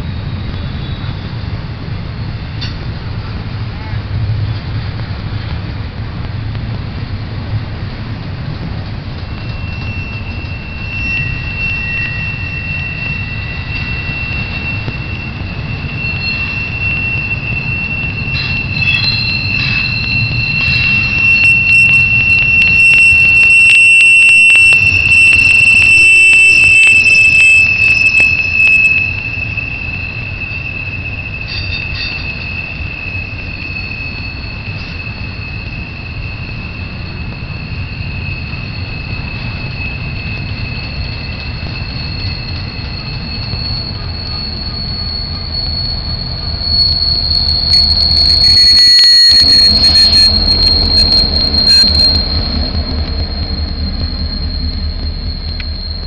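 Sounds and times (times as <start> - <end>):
diesel locomotives: 0.0 - 56.0
freight train cars rumbling: 0.0 - 56.0
train wheels squealing: 0.0 - 56.0.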